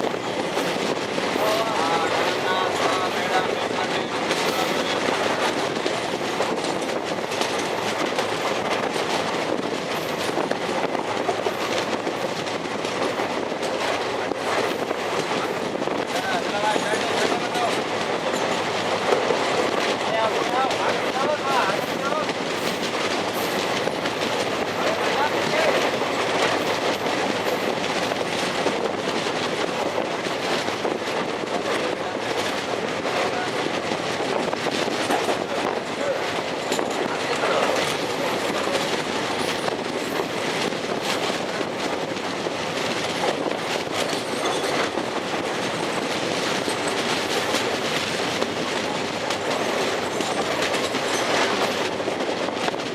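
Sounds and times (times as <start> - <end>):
train rumbling along rails: 0.0 - 52.9.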